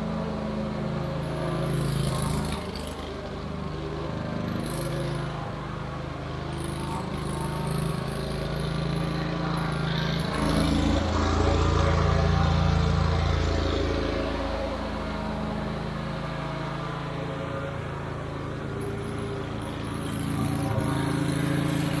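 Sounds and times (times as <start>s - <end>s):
mower engine running: 0.0s - 22.0s.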